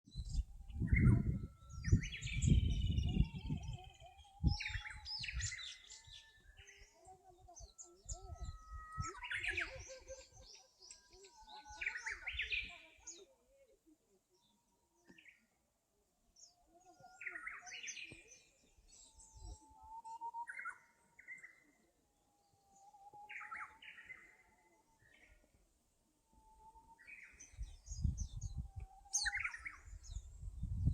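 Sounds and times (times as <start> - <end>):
birds singing: 0.1 - 15.6, 16.3 - 25.7, 26.3 - 30.9.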